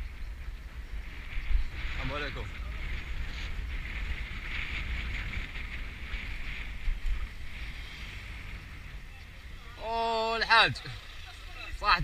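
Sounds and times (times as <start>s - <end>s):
tyre and road noise: 0.0s - 12.0s
wind rumbling over microphone: 0.0s - 12.0s.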